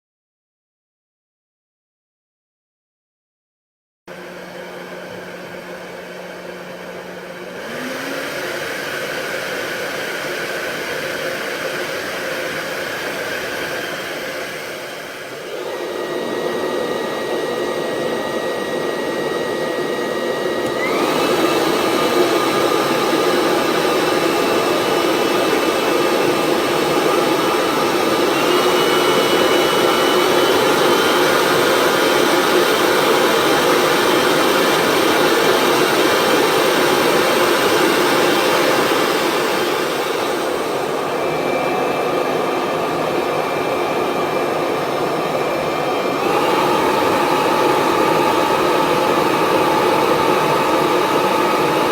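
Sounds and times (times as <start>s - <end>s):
hair dryer running: 4.1s - 51.9s.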